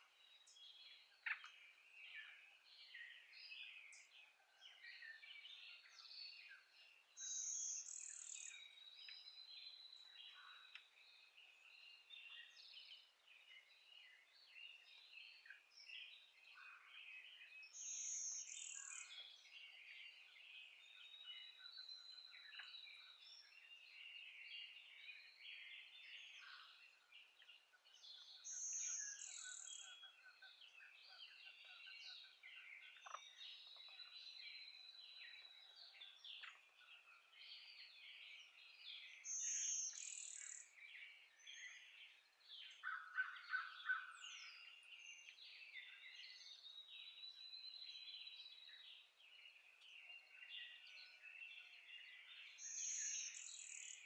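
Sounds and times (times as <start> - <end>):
songbirds singing: 0.0 - 54.0
high thin birdsong: 5.2 - 54.0.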